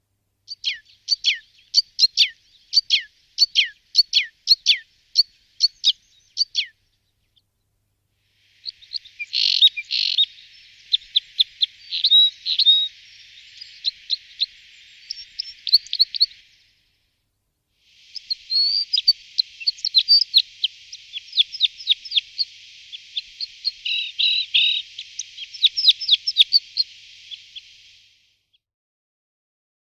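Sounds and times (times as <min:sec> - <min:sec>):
faint hiss: 0:00.0 - 0:28.6
birds chirping: 0:00.5 - 0:07.7, 0:08.4 - 0:17.0, 0:17.9 - 0:28.1.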